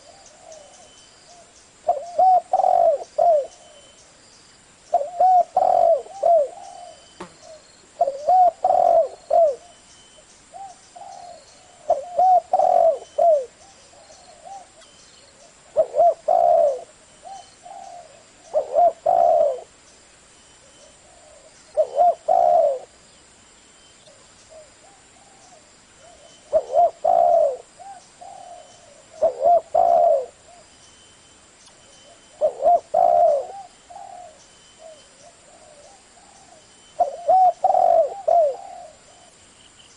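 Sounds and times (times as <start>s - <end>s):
dove cooing: 0.0s - 3.9s, 4.9s - 9.8s, 10.5s - 19.8s, 20.7s - 22.9s, 24.0s - 30.7s, 32.0s - 39.4s.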